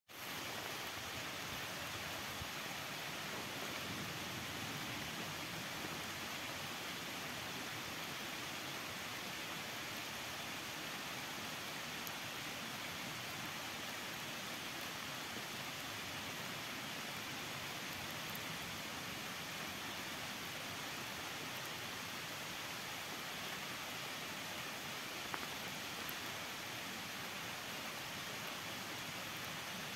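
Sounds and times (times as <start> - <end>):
forest ambience hiss: 0.1 - 29.9.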